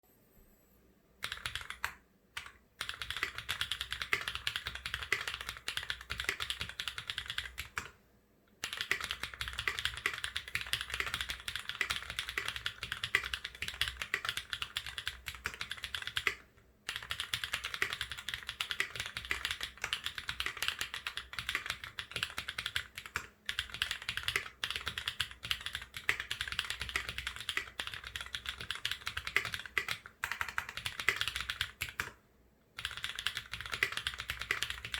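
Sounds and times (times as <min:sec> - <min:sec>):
fast typing on mechanical keyboard: 0:01.2 - 0:08.0, 0:08.6 - 0:32.2, 0:32.8 - 0:34.9.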